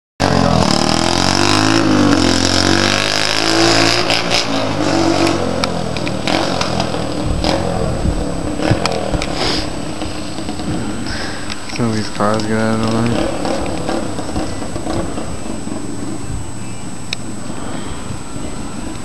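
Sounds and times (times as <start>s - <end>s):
dirt bike engine revving: 0.2s - 18.9s.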